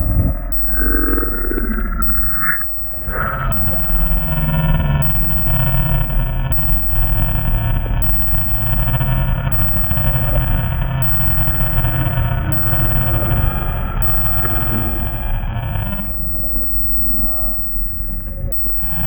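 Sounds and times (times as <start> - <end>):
deep rumbling growl drone: 0.0 - 19.0
eerie tones: 0.0 - 19.0.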